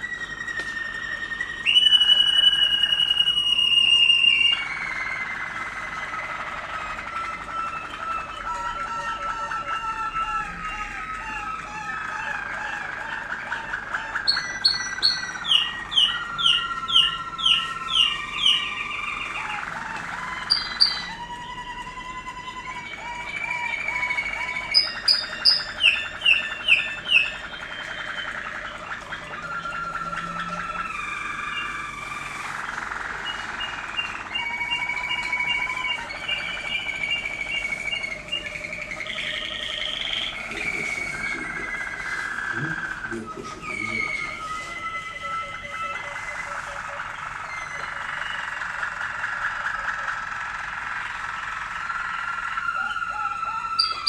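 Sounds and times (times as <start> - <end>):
canaries singing: 0.0 - 54.0.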